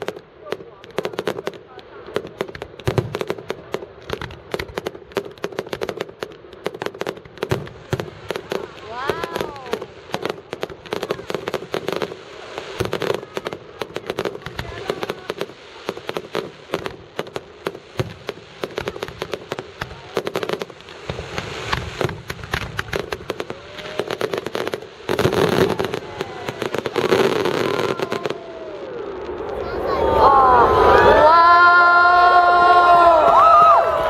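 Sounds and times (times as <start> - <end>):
fireworks crackling bangs and pops: 0.0 - 31.9.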